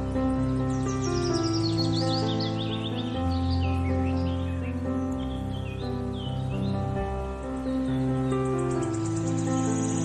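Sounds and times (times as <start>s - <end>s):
music of sustained chords: 0.0s - 10.0s
high bird chirps: 0.1s - 10.0s.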